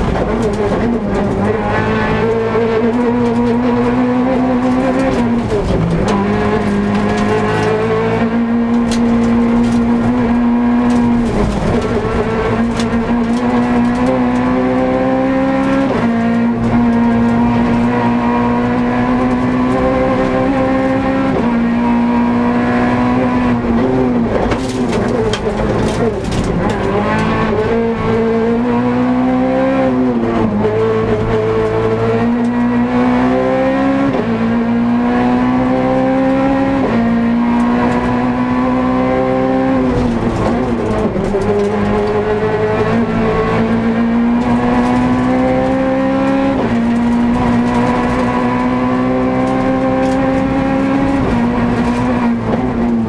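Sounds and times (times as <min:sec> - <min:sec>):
rally car engine at high revs: 0:00.0 - 0:53.0.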